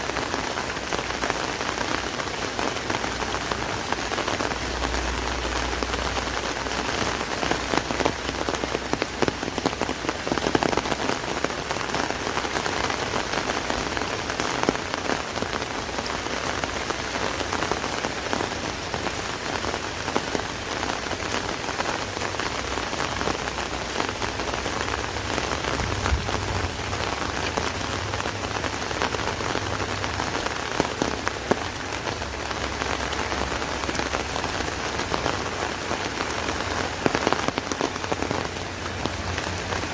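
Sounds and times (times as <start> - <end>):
rain on an umbrella: 0.0 - 39.9.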